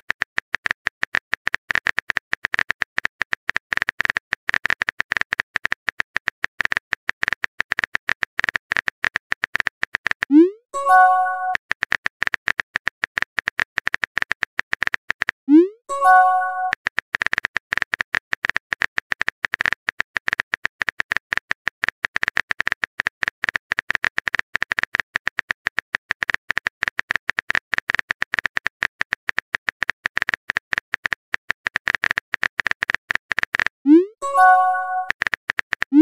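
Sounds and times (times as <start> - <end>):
keyboard typing clicks: 0.1 - 21.5, 26.2 - 36.0.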